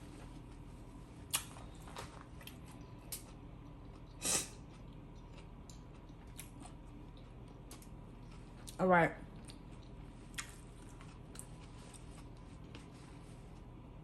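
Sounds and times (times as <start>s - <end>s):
chewing a sandwich: 0.2s - 13.8s.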